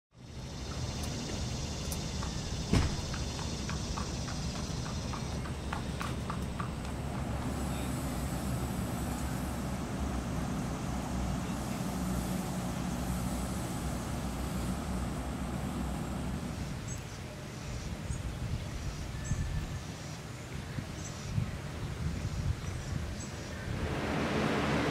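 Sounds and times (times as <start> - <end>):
vehicle engine rumbling: 0.1 - 19.6, 23.5 - 24.9.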